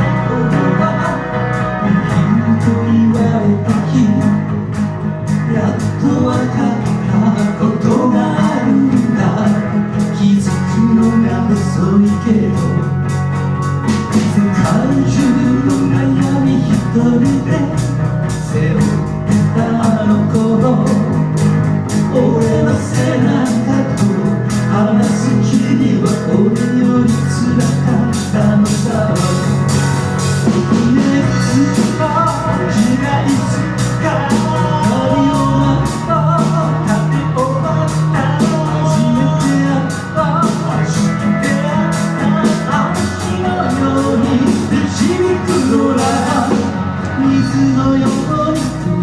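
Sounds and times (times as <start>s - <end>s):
bass and guitar: 0.0s - 49.0s
drum kit beat: 0.0s - 49.0s.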